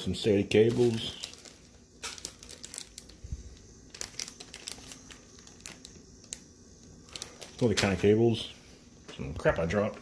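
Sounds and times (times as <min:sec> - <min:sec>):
plastic packaging crinkling: 0:00.2 - 0:08.5.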